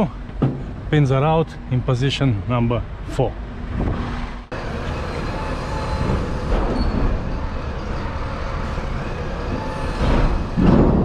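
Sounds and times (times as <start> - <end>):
heavy diesel machinery rumbling: 0.0 - 11.0.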